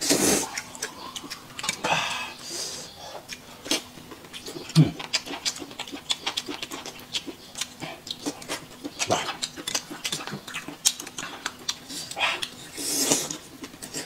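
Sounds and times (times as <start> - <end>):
wet chewing and lip smacks: 0.4 - 1.9, 3.2 - 14.0.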